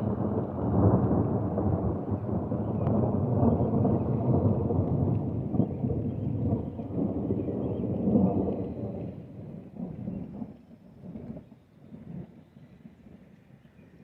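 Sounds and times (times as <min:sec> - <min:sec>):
thunder rumbling: 0:00.0 - 0:11.4.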